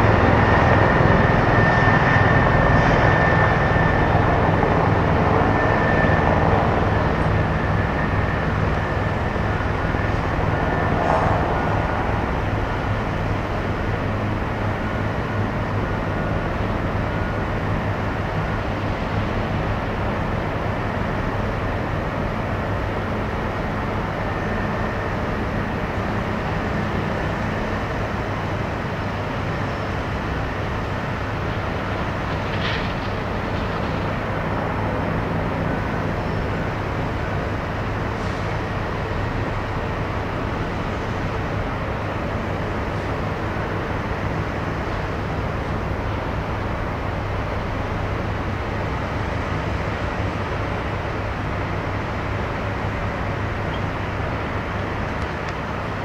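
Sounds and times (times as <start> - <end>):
heavy engines droning: 0.0 - 56.0.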